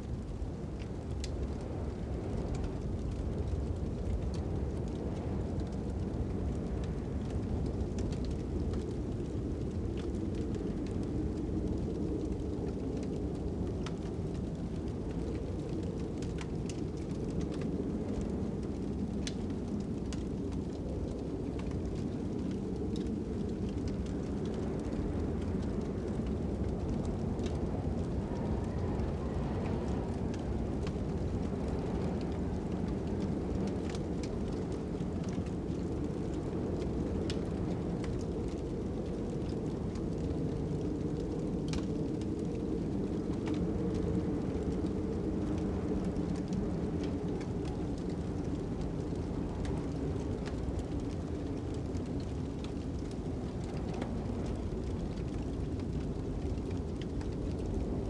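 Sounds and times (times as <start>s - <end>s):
fire crackling and popping: 0.0s - 58.0s
low wind noise: 0.0s - 58.0s.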